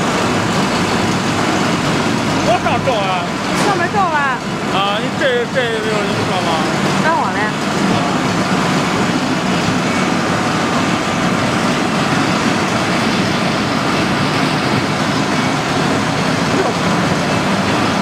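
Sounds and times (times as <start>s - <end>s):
constant rushing noise: 0.0s - 18.0s
machinery hum: 0.0s - 18.0s.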